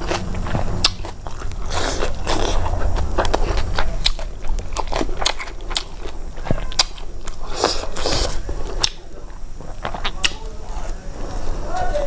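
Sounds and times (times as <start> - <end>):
mouth chewing rice: 0.0 - 12.0.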